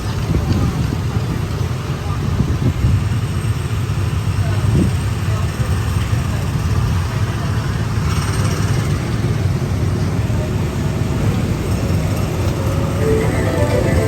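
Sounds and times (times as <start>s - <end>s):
ride car rumbling on track: 0.0s - 14.0s.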